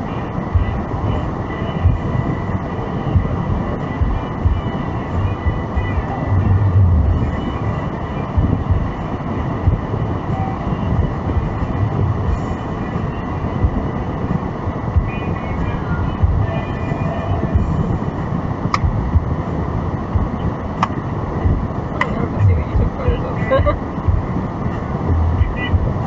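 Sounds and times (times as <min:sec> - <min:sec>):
road and engine rumble in car: 0:00.0 - 0:26.0.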